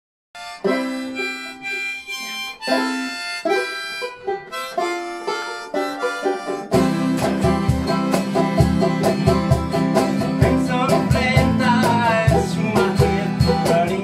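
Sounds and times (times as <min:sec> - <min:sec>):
harmonica melody: 0:00.3 - 0:14.0
acoustic guitar: 0:00.4 - 0:14.0
plucked banjo: 0:00.4 - 0:14.0.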